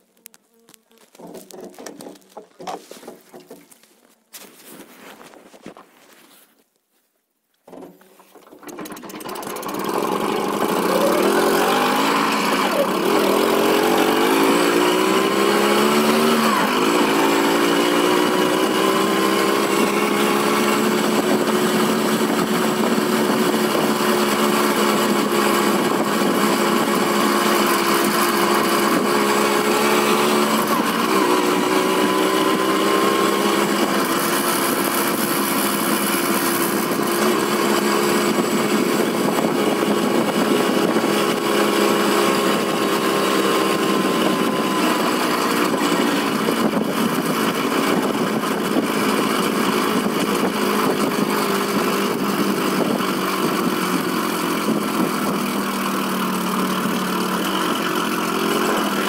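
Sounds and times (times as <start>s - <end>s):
moped engine accelerating: 8.6s - 59.0s.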